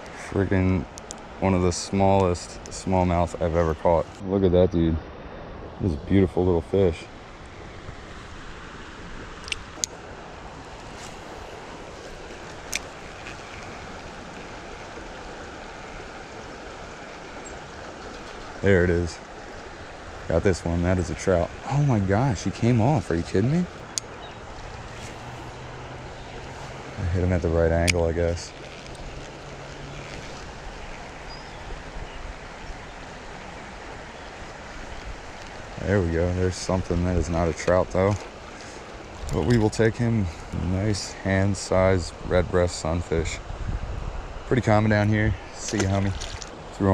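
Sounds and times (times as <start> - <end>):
creek water running: 0.0 - 46.9.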